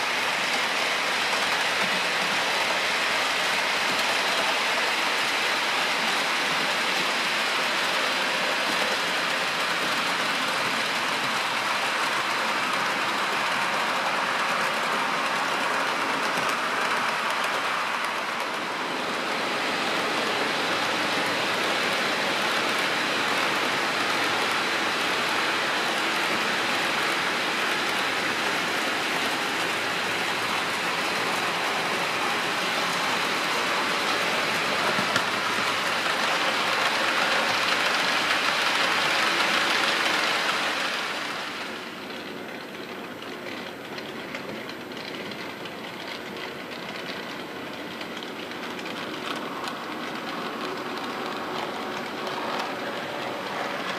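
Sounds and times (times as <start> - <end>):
model trains running on track: 0.0 - 53.9.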